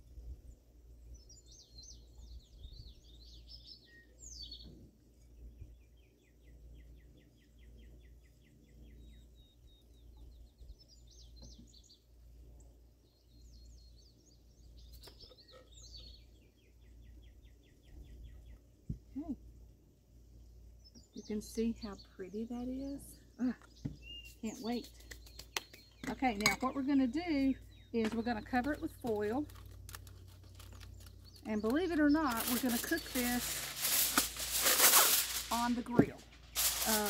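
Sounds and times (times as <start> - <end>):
songbird singing trills: 1.0 - 12.1, 13.0 - 19.4, 20.4 - 37.0.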